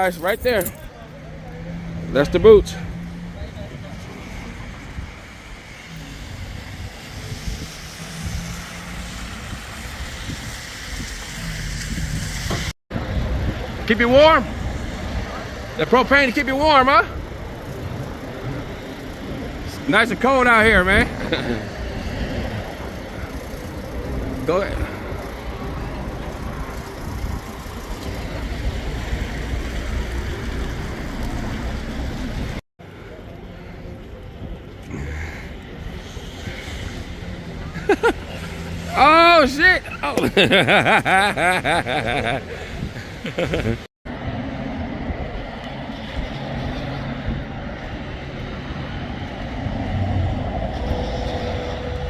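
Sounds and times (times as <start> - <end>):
road or wind noise: 0.0 - 52.0
vehicle engine hum: 0.0 - 52.0.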